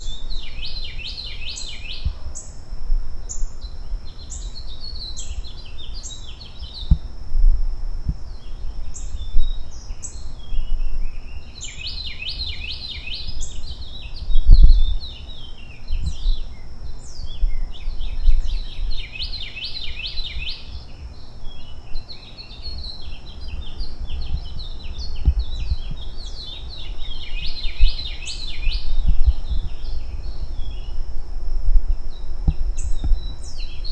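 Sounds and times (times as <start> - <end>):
small birds chirping: 0.0 - 7.3, 8.0 - 31.2, 31.8 - 33.9.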